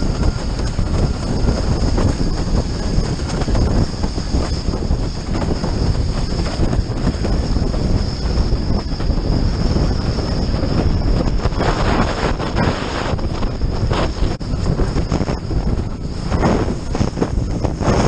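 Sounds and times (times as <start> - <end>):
board rumbling over choppy water: 0.0 - 18.0
wind buffeting microphone: 0.0 - 18.0.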